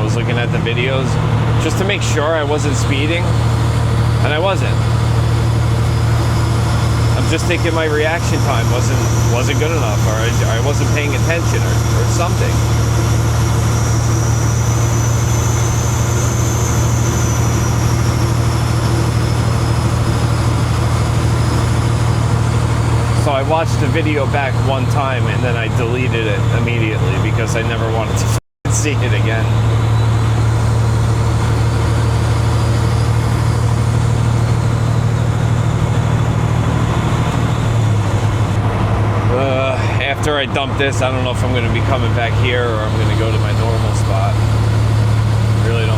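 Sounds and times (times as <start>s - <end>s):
diesel truck engine running: 0.0s - 45.9s
road noise: 0.0s - 45.9s.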